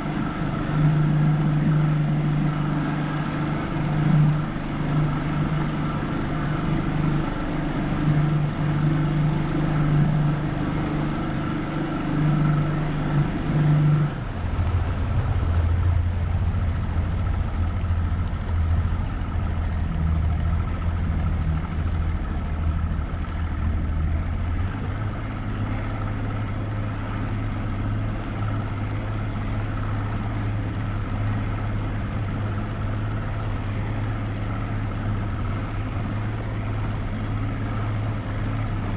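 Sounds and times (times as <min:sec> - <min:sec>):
motorboat engine running: 0:00.0 - 0:38.9.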